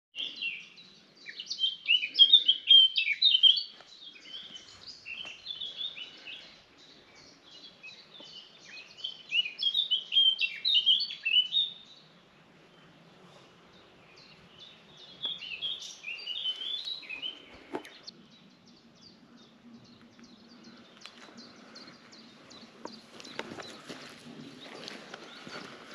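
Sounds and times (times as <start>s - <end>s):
songbird singing: 0.1s - 25.9s.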